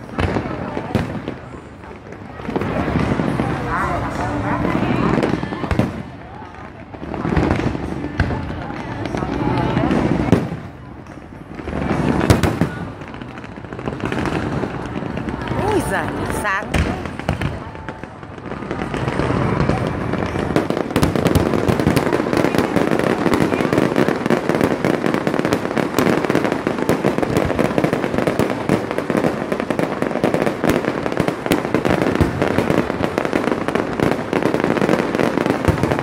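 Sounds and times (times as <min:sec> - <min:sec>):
fireworks bursts and crackling: 0:00.0 - 0:36.0.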